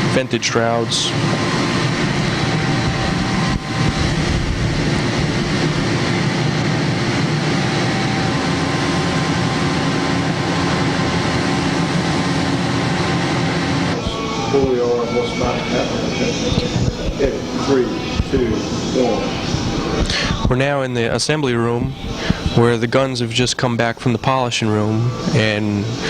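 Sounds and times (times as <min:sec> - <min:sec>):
machine hiss: 0:00.0 - 0:26.0
machine hums: 0:00.0 - 0:26.0.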